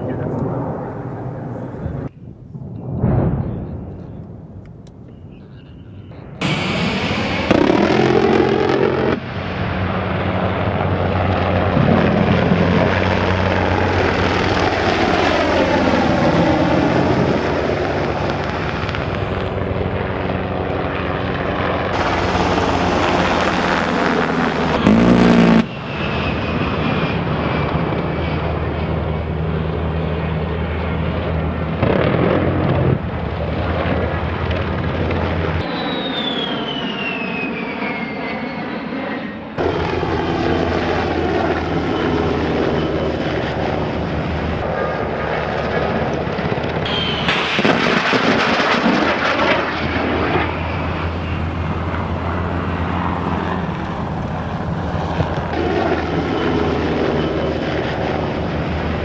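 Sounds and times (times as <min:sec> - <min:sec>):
jet engines whining and rumbling: 0:00.0 - 0:59.0.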